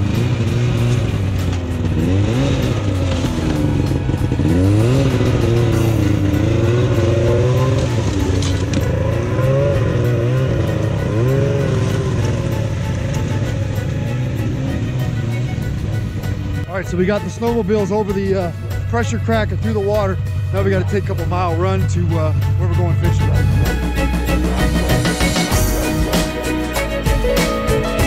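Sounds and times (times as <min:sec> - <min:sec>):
snowmobile engine revving: 0:00.0 - 0:28.0.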